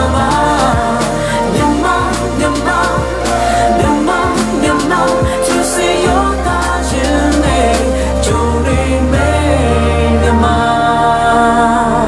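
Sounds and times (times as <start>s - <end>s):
song with held chords: 0.0s - 12.0s.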